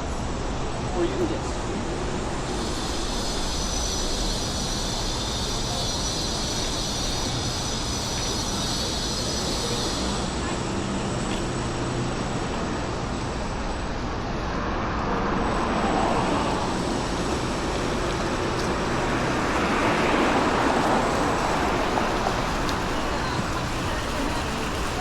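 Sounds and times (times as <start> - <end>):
road noise of passing vehicles: 0.0 - 25.0.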